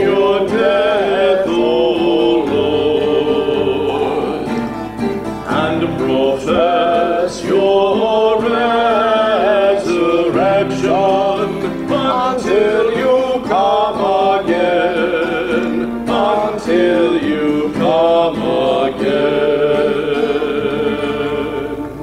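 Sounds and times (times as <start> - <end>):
musical accompaniment: 0.0 - 22.0
voices singing slow melody: 0.0 - 22.0.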